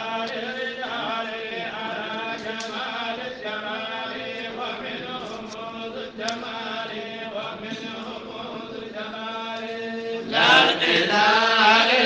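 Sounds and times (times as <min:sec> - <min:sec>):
person chanting devotional poem: 0:00.0 - 0:12.0.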